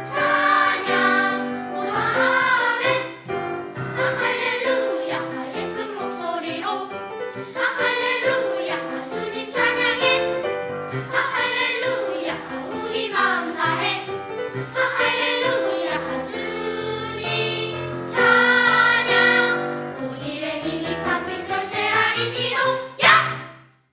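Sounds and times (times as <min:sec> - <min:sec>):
church choir singing: 0:00.0 - 0:23.6.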